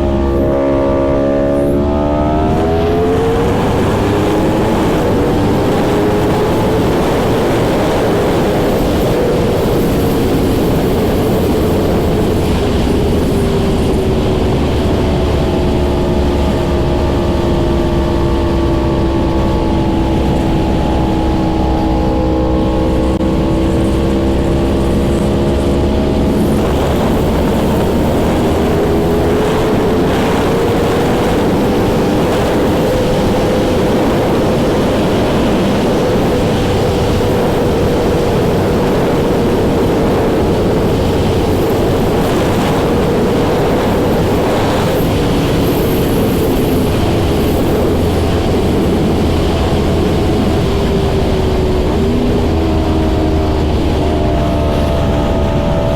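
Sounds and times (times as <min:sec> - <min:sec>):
loud rushing noise: 0:00.0 - 0:55.9
motorcycle engine running: 0:00.0 - 0:55.9.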